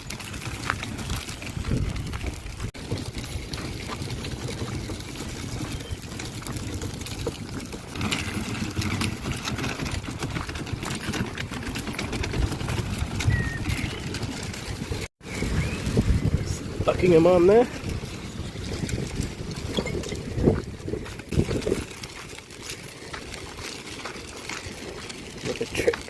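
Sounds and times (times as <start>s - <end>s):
wind buffeting microphone: 0.0s - 9.3s, 9.9s - 23.6s.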